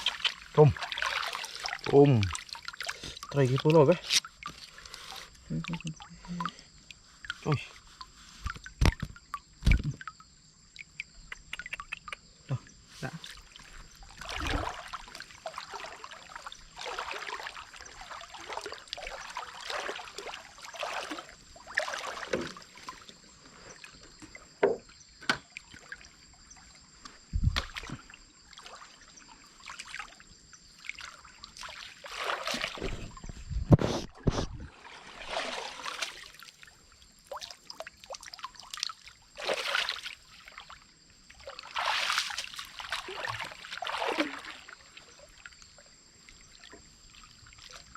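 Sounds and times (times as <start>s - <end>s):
water splashing and sloshing: 0.0s - 47.9s.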